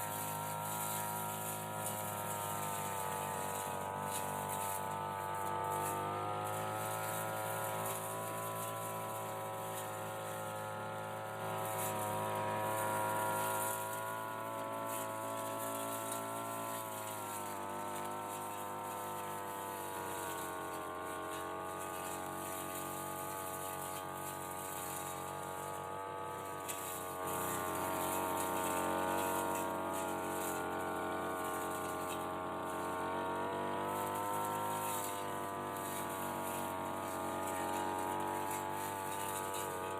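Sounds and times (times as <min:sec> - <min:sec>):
brush cutter engine cutting hedge: 0:00.0 - 0:39.9.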